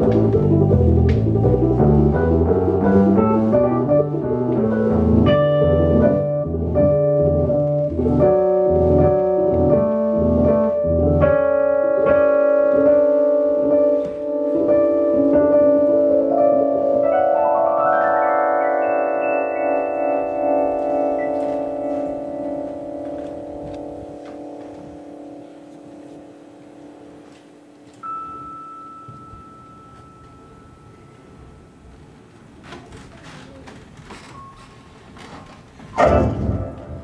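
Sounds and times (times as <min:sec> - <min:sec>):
jazz piano: 0:00.0 - 0:37.0.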